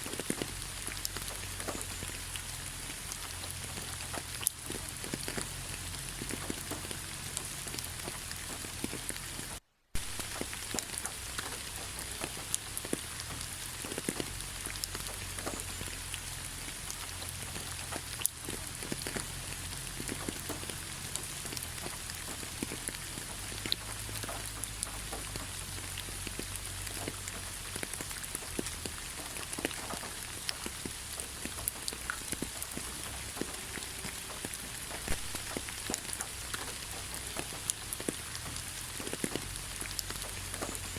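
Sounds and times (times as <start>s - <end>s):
close raindrop hits: 0.0s - 40.9s
steady rain falling: 0.0s - 40.9s.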